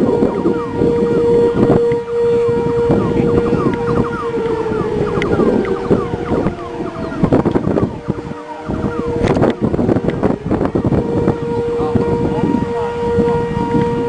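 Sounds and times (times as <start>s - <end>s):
rapid falling siren yelp: 0.0s - 14.0s
slow wailing siren: 0.0s - 14.0s
steady siren tone: 0.0s - 14.0s
wind noise on microphone: 0.0s - 14.0s.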